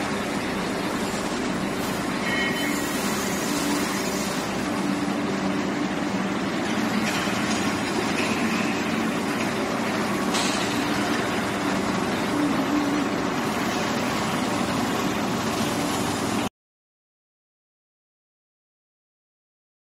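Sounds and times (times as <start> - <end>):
workshop machinery droning: 0.0 - 16.5.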